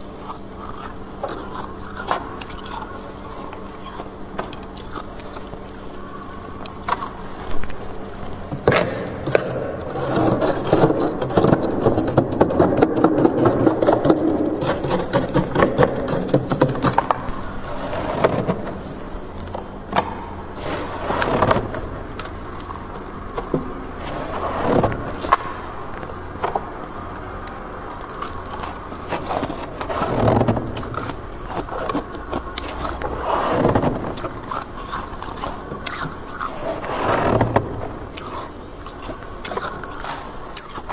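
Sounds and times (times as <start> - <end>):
freezer frost scraping: 0.0 - 40.9.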